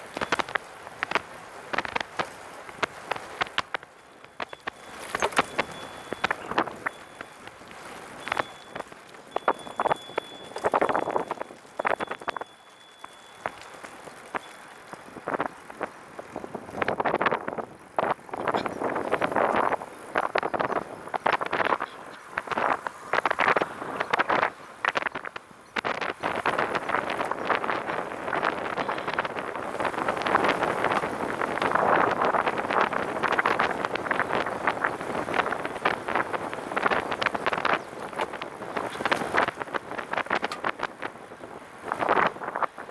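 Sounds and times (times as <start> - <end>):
wind buffeting microphone: 0.0 - 12.6, 13.4 - 42.9.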